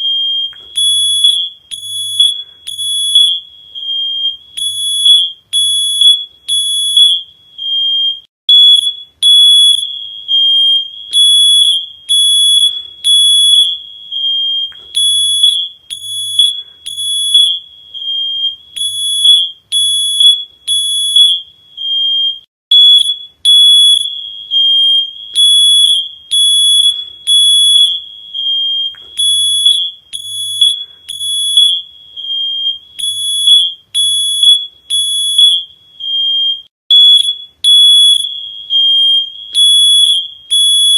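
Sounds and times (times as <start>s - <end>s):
electronic alarm beeping: 0.0s - 40.9s.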